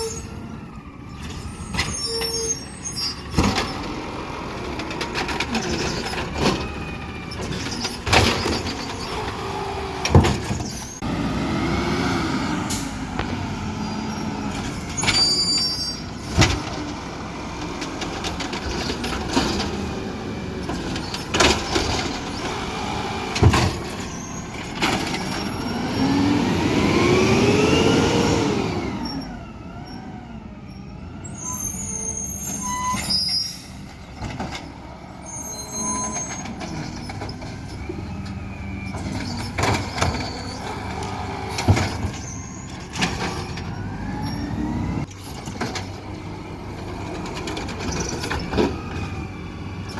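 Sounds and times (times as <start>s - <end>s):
garbage truck diesel engine: 0.0s - 49.9s.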